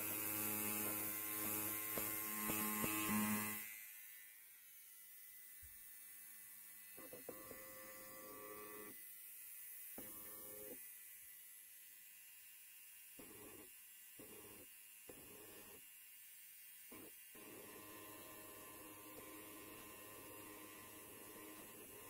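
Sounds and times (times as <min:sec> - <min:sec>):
electric hair trimmer buzzing: 0:00.0 - 0:22.0.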